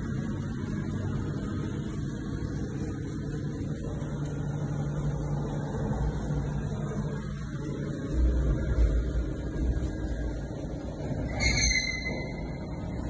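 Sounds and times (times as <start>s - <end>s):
diesel generator engine running: 0.0s - 13.0s.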